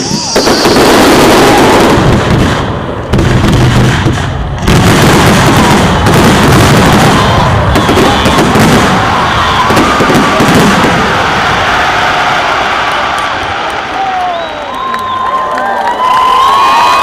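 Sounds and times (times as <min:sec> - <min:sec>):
fireworks bangs: 0:00.0 - 0:15.2.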